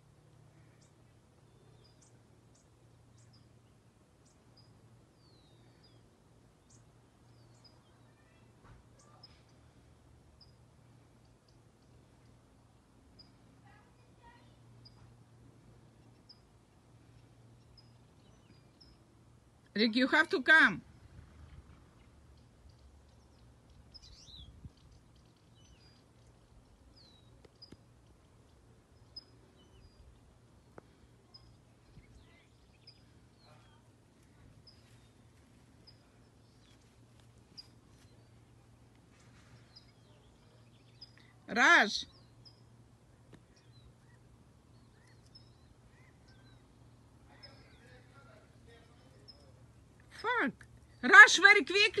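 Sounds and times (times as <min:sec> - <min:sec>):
low steady hum: 0:00.0 - 0:52.0
faint bird chirps: 0:00.5 - 0:19.2, 0:21.0 - 0:51.0.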